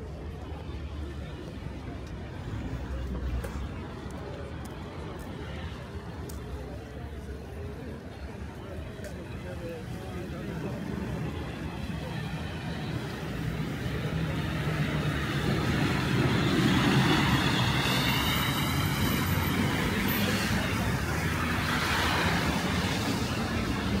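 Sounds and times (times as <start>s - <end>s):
city road traffic: 0.0s - 24.0s.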